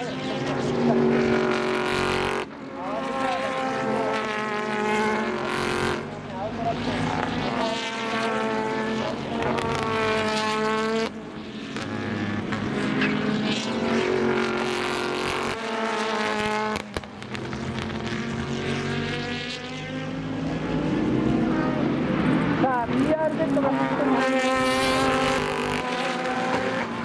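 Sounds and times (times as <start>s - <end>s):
race cars accelerating past: 0.0s - 27.0s.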